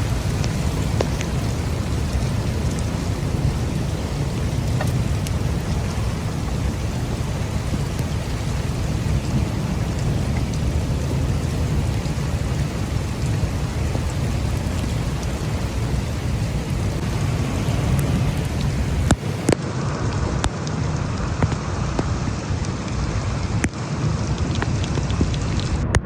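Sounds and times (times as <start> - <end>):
heavy rain: 0.0 - 26.0
strong wind: 0.0 - 26.0.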